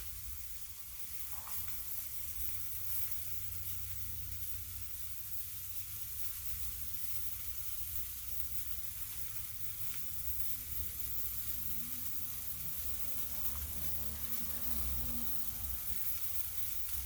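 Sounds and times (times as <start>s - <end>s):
meat sizzling over charcoal: 0.0s - 17.0s.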